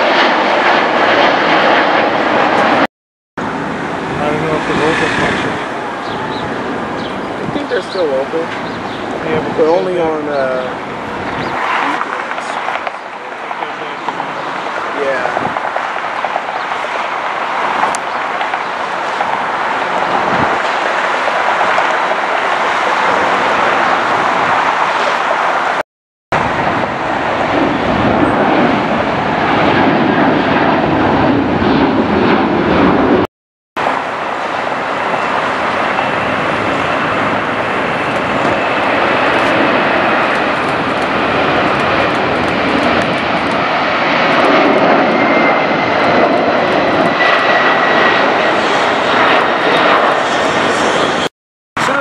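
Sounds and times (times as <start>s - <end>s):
jet airliner engines: 0.0s - 25.8s, 26.4s - 52.0s.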